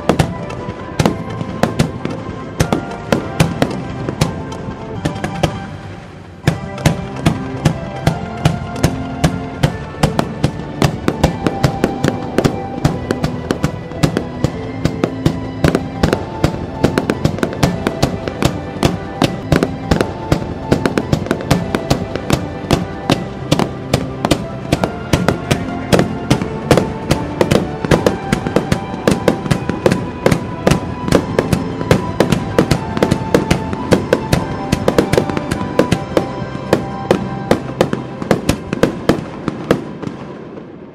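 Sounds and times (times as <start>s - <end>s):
background music: 0.0s - 40.9s
fireworks bangs: 0.0s - 40.9s.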